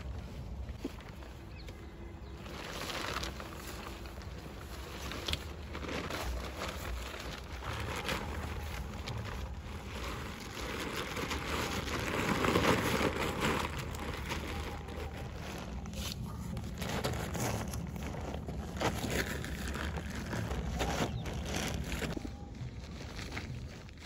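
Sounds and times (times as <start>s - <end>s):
tent fabric rustling: 0.0s - 24.0s.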